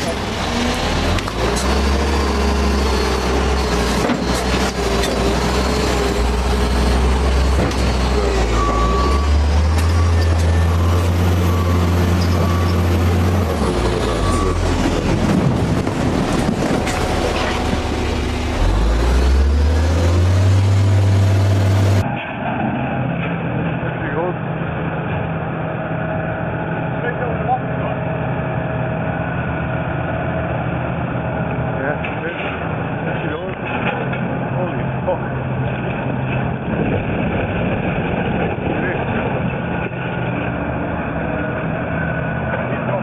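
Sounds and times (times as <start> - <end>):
heavy diesel engine under load: 0.0 - 43.0.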